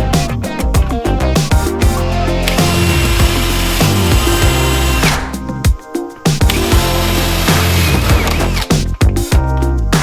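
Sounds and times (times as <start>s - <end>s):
deep bass notes: 0.0s - 5.7s, 6.4s - 9.9s
electronic music: 0.0s - 10.0s.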